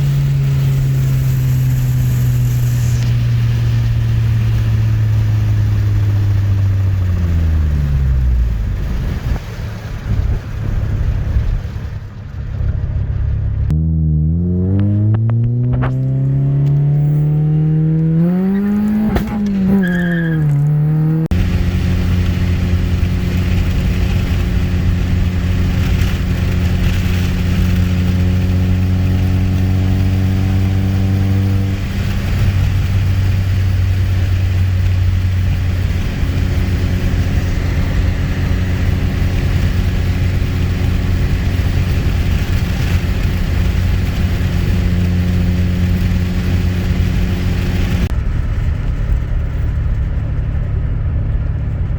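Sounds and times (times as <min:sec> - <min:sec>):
car engine droning while driving: 0:00.0 - 0:51.9.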